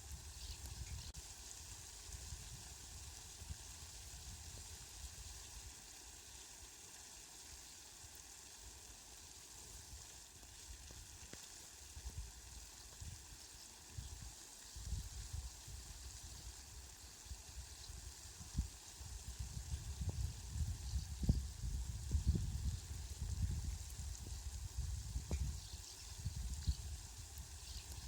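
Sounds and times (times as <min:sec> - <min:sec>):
falling rain hiss: 0:00.0 - 0:28.0.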